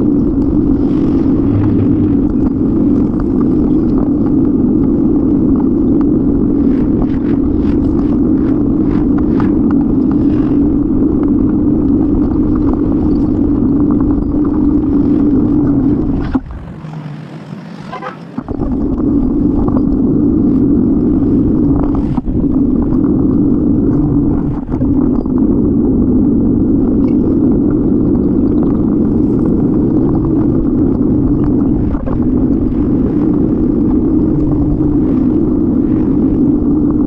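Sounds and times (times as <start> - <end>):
wind buffeting: 0.0 - 17.7, 18.3 - 37.0
road rumble: 0.0 - 37.0.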